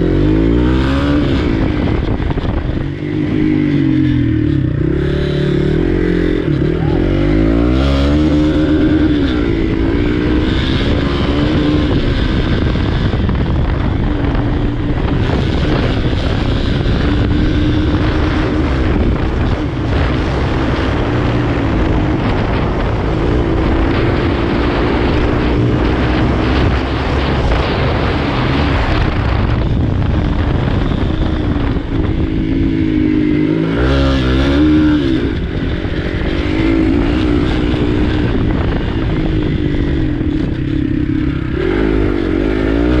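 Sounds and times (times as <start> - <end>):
motorcycle engine revving: 0.0 - 43.0
steady rushing noise: 0.0 - 43.0.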